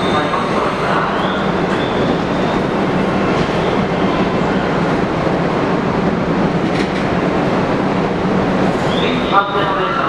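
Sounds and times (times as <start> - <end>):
train wheel-on-rail noise: 0.0 - 10.0.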